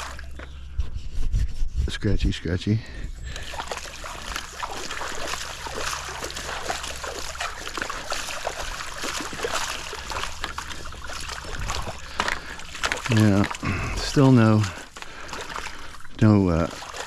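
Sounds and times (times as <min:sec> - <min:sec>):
water splashing and trickling: 0:00.0 - 0:00.5, 0:03.2 - 0:17.0
steady low hum: 0:00.0 - 0:17.0.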